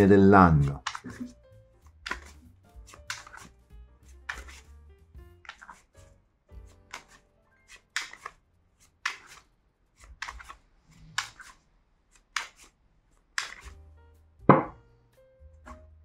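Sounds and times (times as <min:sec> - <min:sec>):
cards being shuffled: 0:00.0 - 0:13.8.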